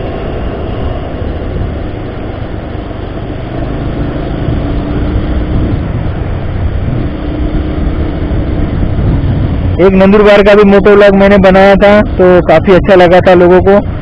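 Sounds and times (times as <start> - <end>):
motorcycle engine running: 0.0 - 12.5
wind and road noise: 0.0 - 14.0.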